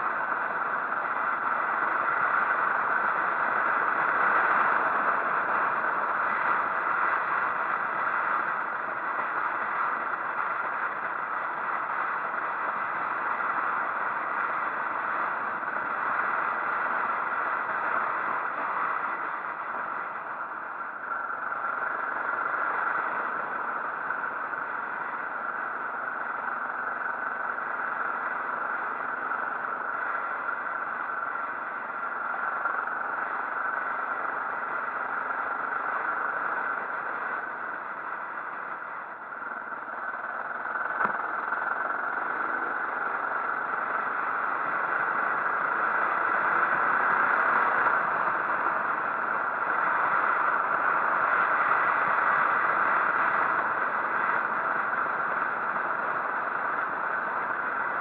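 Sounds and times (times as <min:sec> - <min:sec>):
motorcycle running: 0:00.1 - 0:58.0.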